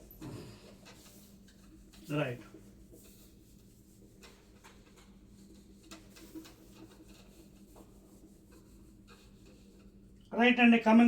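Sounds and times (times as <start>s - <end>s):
rubbing and scratching on paper: 0.7s - 10.6s.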